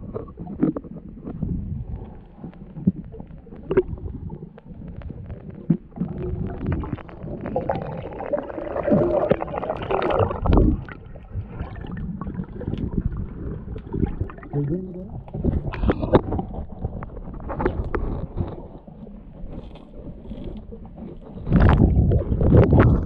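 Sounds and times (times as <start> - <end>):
underwater bubbling rumble: 0.0 - 23.0
underwater sharp clicks and knocks: 0.1 - 7.9, 10.0 - 23.0.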